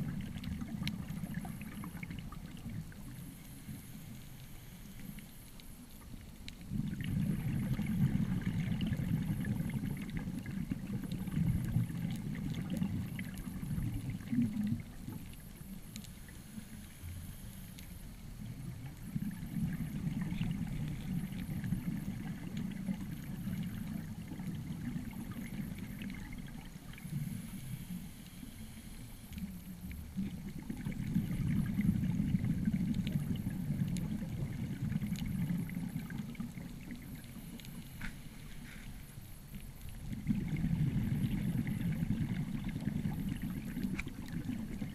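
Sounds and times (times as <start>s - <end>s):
underwater rumble of exhaled bubbles: 0.0s - 44.9s.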